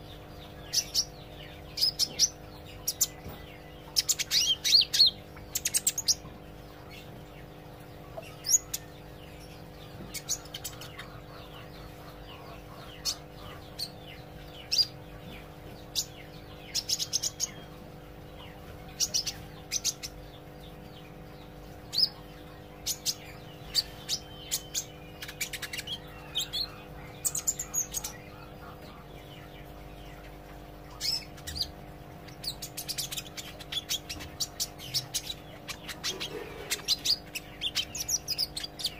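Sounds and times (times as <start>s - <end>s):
steady low hum: 0.0s - 38.9s
young bird chirping: 0.0s - 38.9s.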